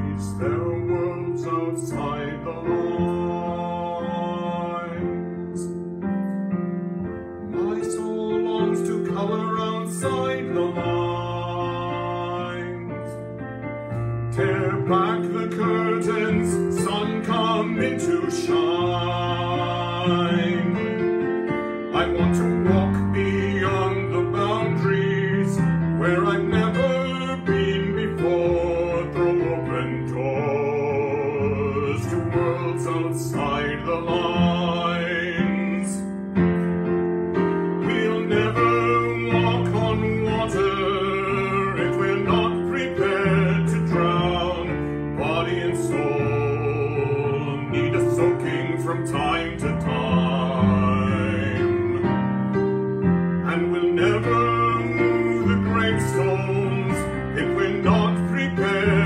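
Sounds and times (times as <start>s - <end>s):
digital piano chords: 0.0s - 59.0s.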